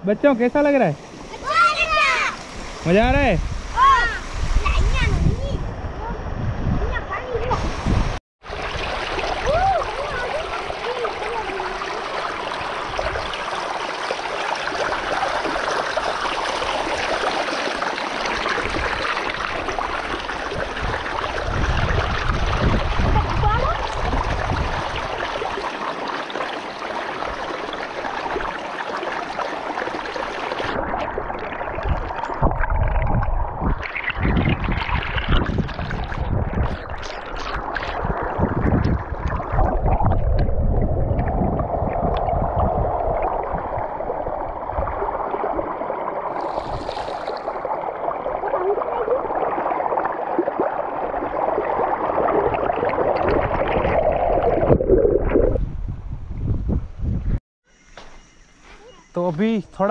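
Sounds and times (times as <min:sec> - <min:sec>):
muffled underwater washing: 0:06.8 - 0:55.6.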